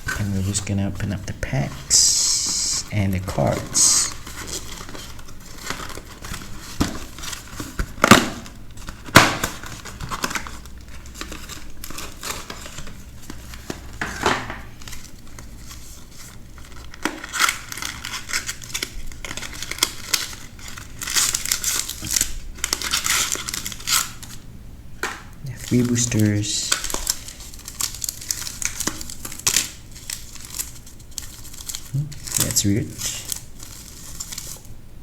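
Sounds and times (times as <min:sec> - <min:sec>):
packaging crinkling and tearing: 0:00.0 - 0:34.8.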